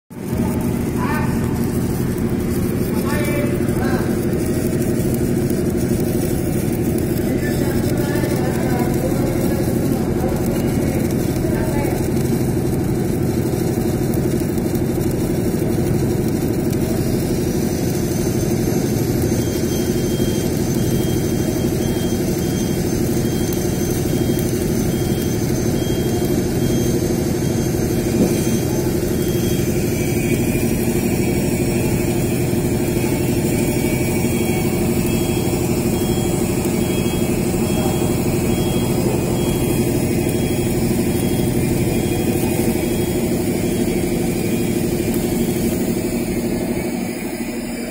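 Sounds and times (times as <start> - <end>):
arc welding buzzing: 0.1 - 47.9.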